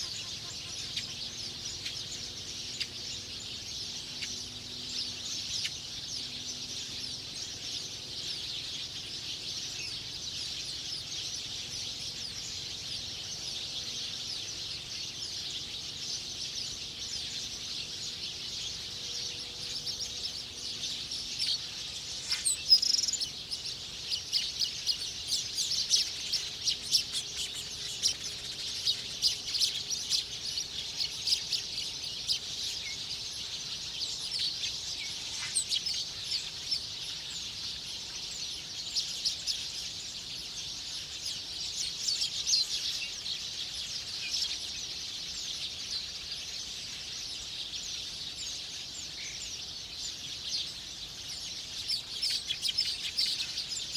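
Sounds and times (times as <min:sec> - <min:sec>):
high-pitched bird chorus: 0:00.0 - 0:53.9
wild birds chirping: 0:00.0 - 0:53.9.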